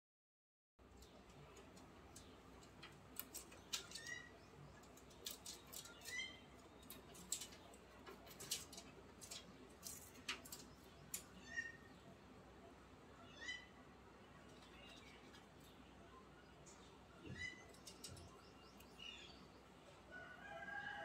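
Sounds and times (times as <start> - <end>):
faint chirping calls: 0.8 - 21.0.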